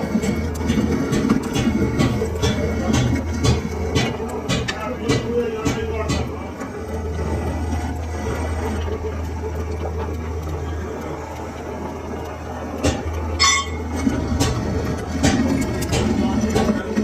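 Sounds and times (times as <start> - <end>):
lathe running: 0.0 - 17.0.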